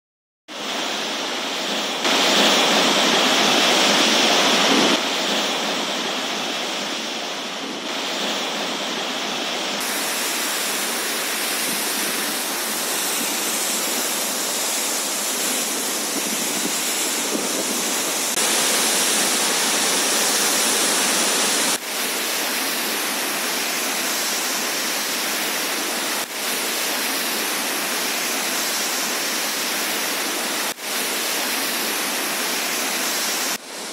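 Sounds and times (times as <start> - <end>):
loud rush of churning water: 0.5 - 33.9.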